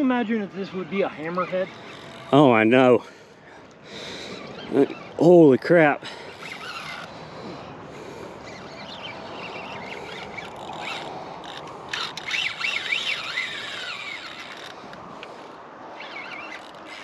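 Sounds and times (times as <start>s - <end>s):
fishing reel drag squealing: 0.0s - 17.0s.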